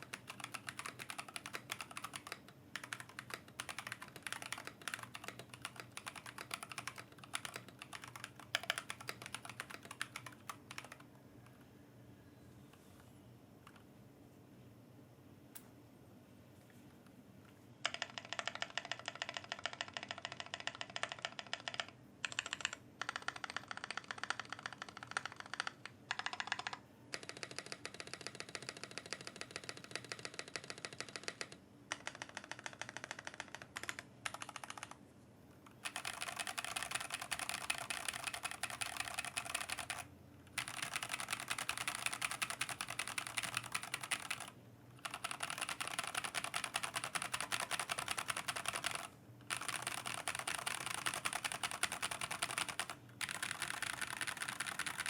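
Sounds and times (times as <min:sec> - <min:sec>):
rapid keyboard typing: 0:00.0 - 0:11.1, 0:17.8 - 0:35.0, 0:35.7 - 0:55.0.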